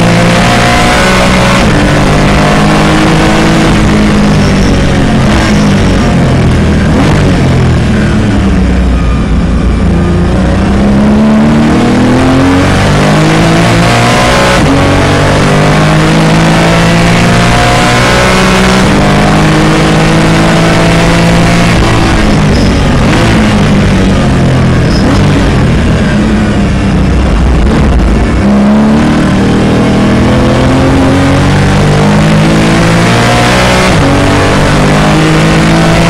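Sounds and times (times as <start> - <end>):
car engine accelerating through gears: 0.0 - 36.0
road and wind noise: 0.0 - 36.0.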